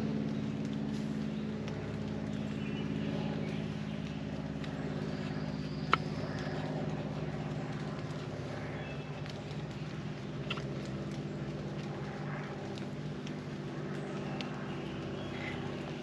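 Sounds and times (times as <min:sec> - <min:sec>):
distant motor drone: 0:00.0 - 0:16.0
faint small clicks: 0:00.1 - 0:16.0.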